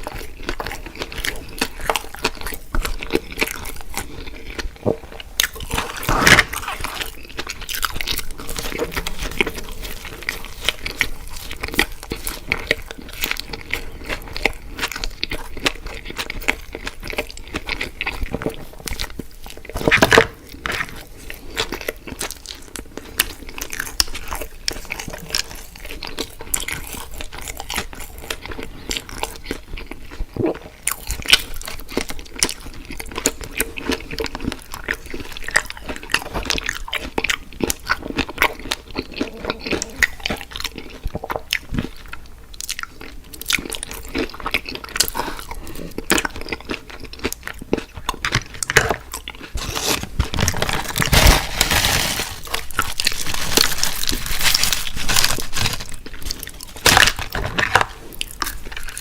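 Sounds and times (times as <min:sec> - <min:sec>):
crunchy bites and chewing: 0:00.0 - 0:59.0.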